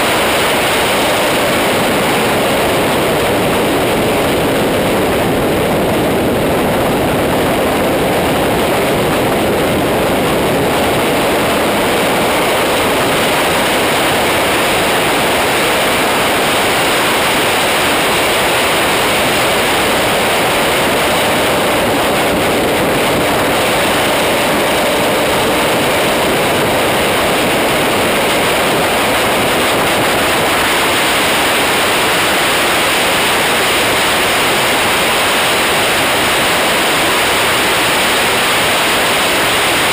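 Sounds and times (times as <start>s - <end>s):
loud wind rush: 0.0s - 39.9s.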